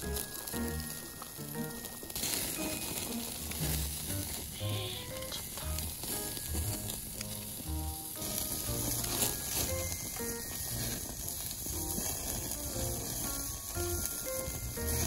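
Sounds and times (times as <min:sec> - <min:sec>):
light background music: 0:00.0 - 0:15.0
meat sizzling on a grill: 0:00.0 - 0:15.0
tongs turning meat: 0:00.0 - 0:15.0.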